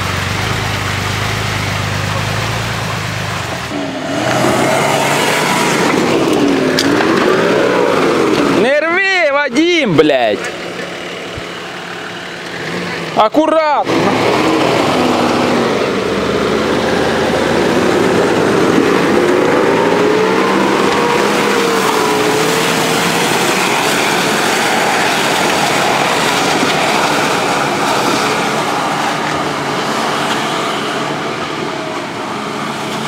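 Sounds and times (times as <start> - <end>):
car engine under load: 0.0 - 33.0.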